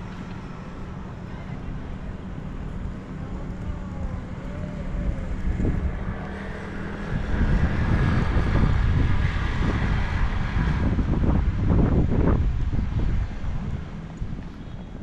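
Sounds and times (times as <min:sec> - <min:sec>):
low engine hum: 0:00.0 - 0:15.0
wind rumble on microphone: 0:00.0 - 0:15.0.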